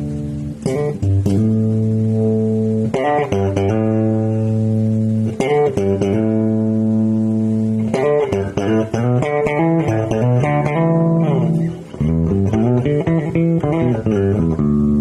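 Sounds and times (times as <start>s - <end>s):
electric bass guitar notes: 0.0s - 15.0s.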